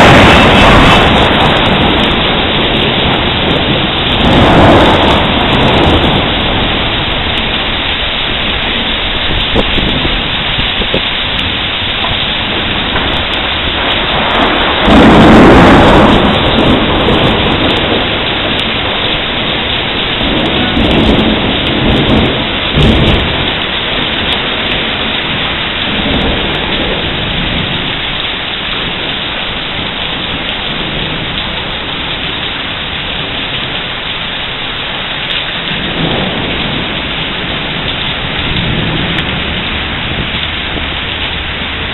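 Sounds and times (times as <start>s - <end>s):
thunder clap: 0.0s - 33.8s, 35.2s - 41.9s
rumbles of thunder: 0.0s - 34.2s, 35.1s - 41.9s
steady rain: 0.0s - 41.9s.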